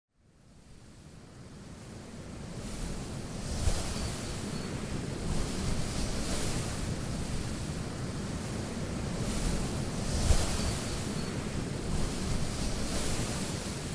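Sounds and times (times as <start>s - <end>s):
wind rushing in gusts: 0.4s - 13.9s.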